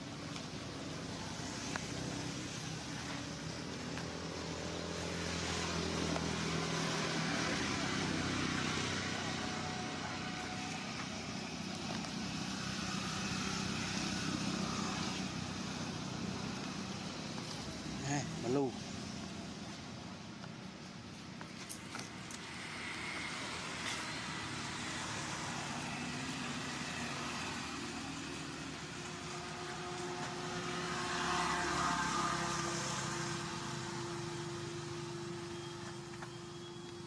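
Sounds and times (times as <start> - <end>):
vehicle engine humming: 0.0 - 37.0.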